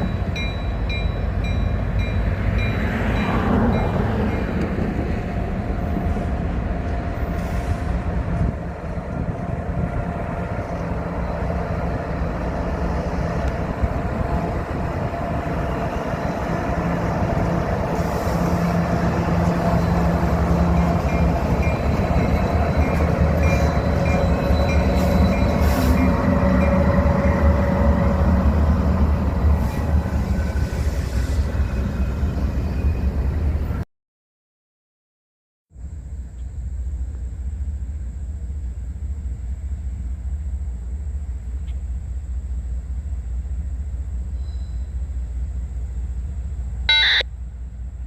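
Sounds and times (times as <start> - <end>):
freight train rumbling by: 0.0 - 33.8, 35.8 - 48.0.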